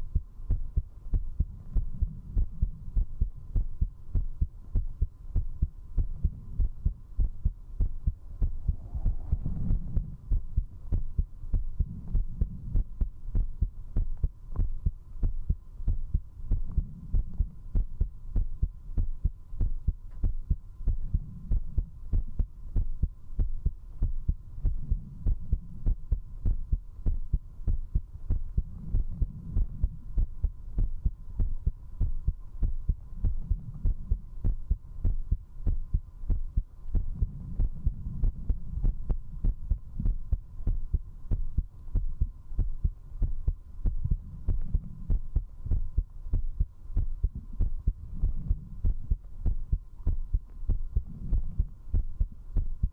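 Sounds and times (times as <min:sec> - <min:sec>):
fast heartbeat: 0:00.0 - 0:52.9.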